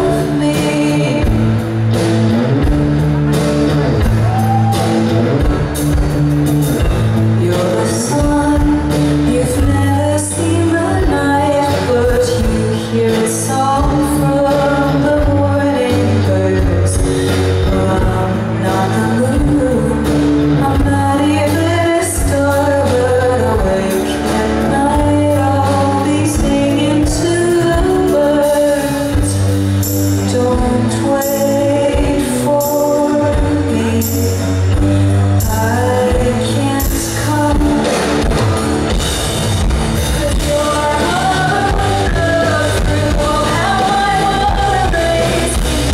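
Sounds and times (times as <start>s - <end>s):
woman singing: 0.0s - 1.6s, 7.4s - 39.0s, 40.0s - 45.9s
drums: 0.0s - 45.9s
electric bass: 0.0s - 45.9s
electric guitar: 0.0s - 45.9s.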